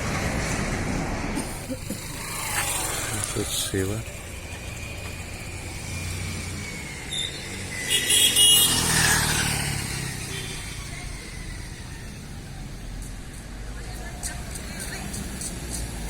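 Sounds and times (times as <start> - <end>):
motor vehicle passing: 0.0 - 16.0.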